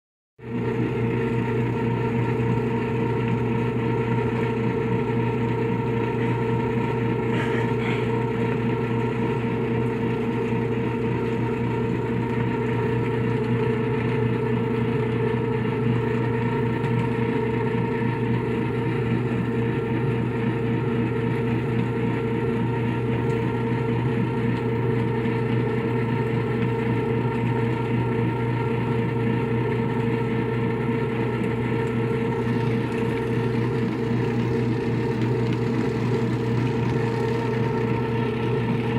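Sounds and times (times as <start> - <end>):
washing machine motor humming: 0.4 - 38.9.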